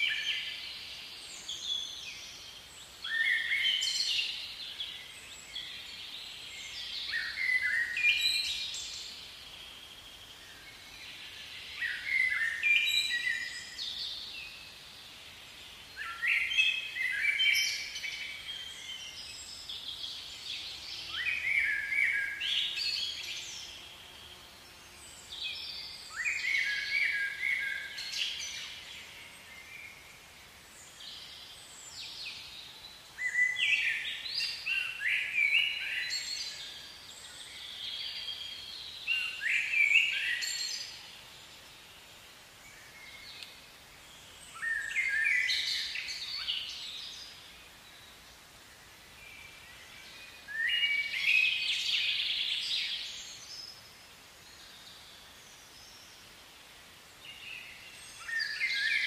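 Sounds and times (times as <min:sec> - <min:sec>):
faint background noise: 0:00.0 - 0:59.0
songbird chirping: 0:00.0 - 0:59.0.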